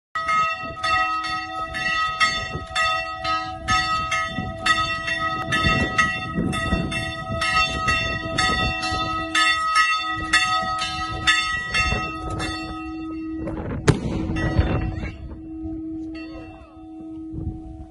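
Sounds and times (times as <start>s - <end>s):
church bells ringing: 0.2s - 17.9s.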